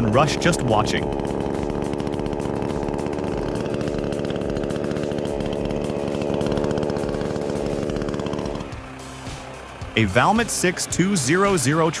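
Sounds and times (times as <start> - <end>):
chainsaw engine running at high revs: 0.0 - 12.0.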